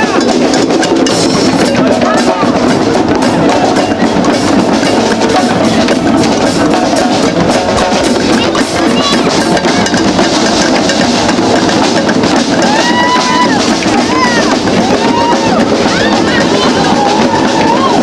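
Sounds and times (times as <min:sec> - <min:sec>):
crowd voices: 0:00.0 - 0:18.0
drums beating steady rhythm: 0:00.0 - 0:18.0.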